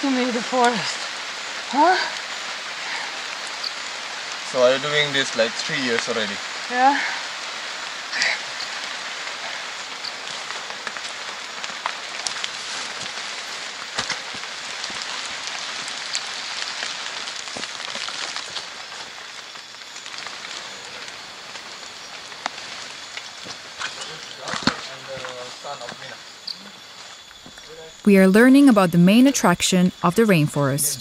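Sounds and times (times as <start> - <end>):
rain on foliage: 0.0 - 27.9.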